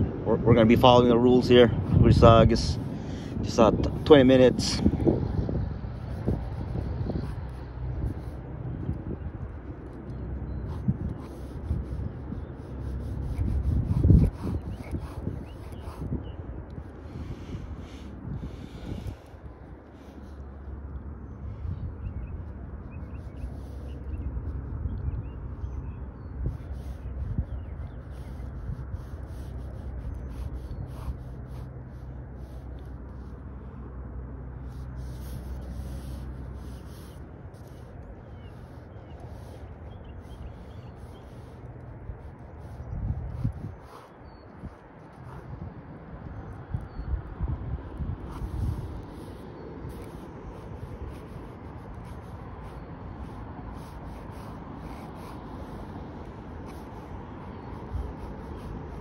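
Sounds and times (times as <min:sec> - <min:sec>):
steady low rumble: 0:00.0 - 0:59.0
pen scratching on paper: 0:00.8 - 0:20.6, 0:22.8 - 0:25.4, 0:26.4 - 0:33.4, 0:34.6 - 0:45.6, 0:48.2 - 0:59.0.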